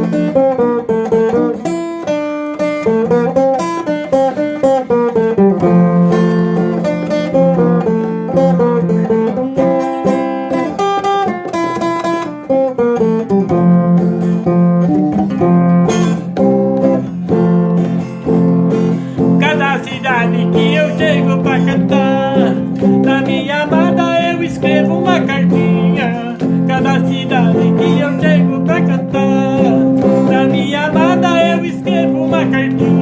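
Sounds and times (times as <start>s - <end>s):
acoustic guitar plucked melody: 0.0s - 33.0s
strummed guitar chords: 0.0s - 33.0s.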